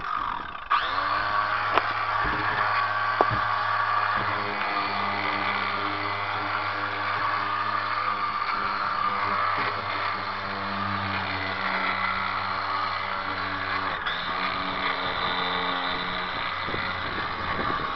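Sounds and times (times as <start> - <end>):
electric sander running: 0.0 - 17.9.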